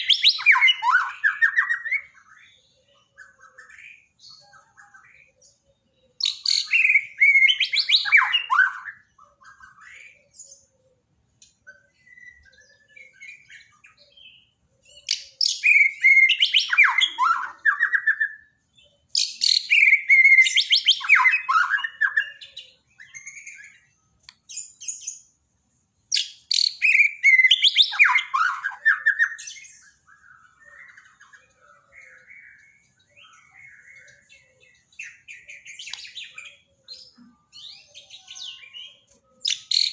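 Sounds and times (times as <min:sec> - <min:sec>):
bird singing: 0:00.0 - 0:39.9
soft bird chirps and calls: 0:00.0 - 0:39.9.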